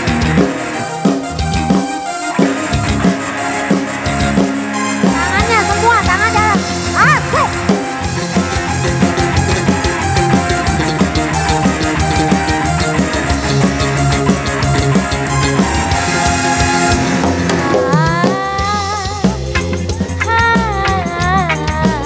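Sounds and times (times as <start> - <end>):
heavy bass: 0.0 - 1.9, 2.5 - 22.0
drum kit: 0.0 - 22.0
electric guitar: 0.0 - 22.0
live rock band over loudspeakers: 0.0 - 22.0.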